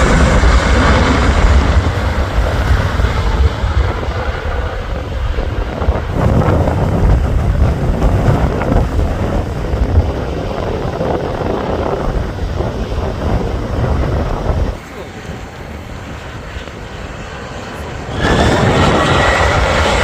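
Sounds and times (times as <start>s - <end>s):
airliner engines rumbling: 0.0s - 20.0s
gusty wind buffeting microphone: 0.0s - 20.0s.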